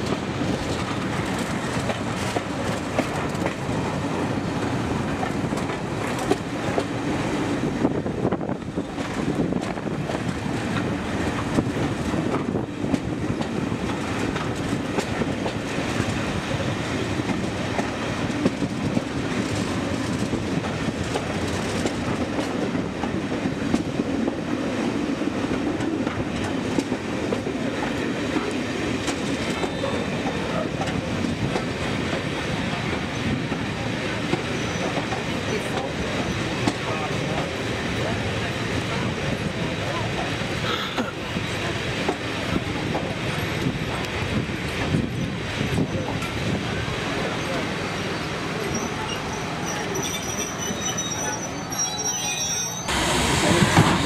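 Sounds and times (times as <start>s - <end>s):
train wheels on rails clicking: 0.0s - 52.2s, 52.8s - 54.0s.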